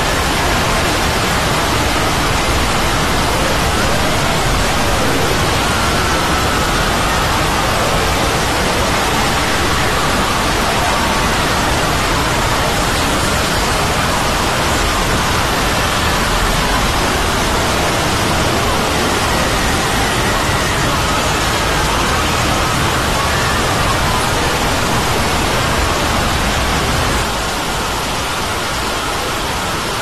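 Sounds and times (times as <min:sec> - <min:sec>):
loud steady hiss-like noise: 0:00.0 - 0:30.0.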